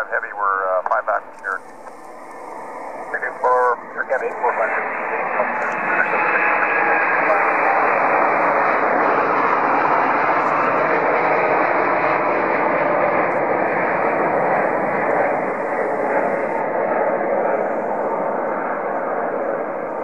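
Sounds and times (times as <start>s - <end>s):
jet engine roar at takeoff: 0.0s - 20.0s.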